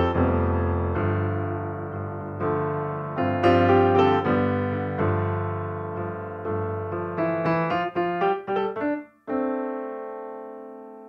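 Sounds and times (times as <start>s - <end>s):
slow soft piano music: 0.0s - 11.0s.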